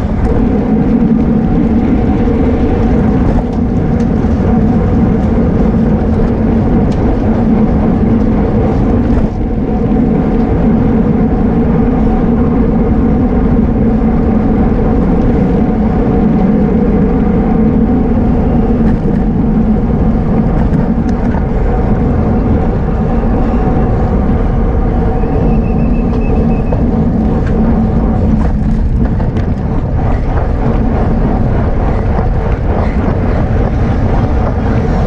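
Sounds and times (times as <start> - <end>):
bicycle rolling at speed: 0.0 - 35.0
wind: 0.0 - 35.0.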